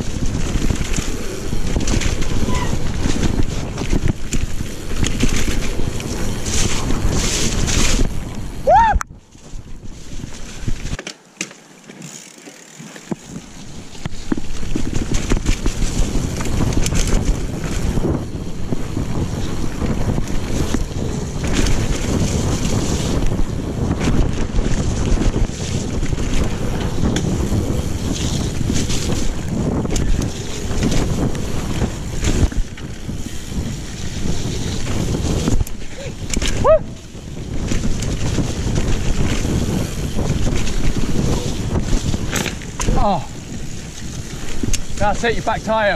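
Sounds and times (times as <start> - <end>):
bike knocks and rattles: 0.0 - 8.4, 9.3 - 45.9
wind buffeting microphone: 0.0 - 11.0, 13.1 - 45.9
bike tyres rumbling on dirt: 0.0 - 45.9.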